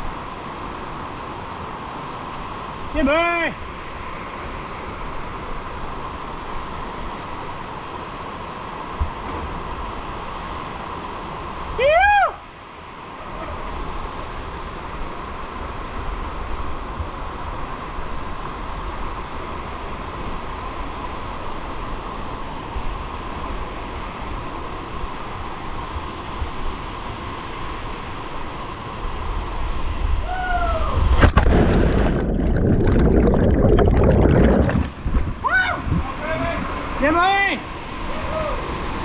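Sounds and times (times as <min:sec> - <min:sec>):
rushing water: 0:00.0 - 0:39.0.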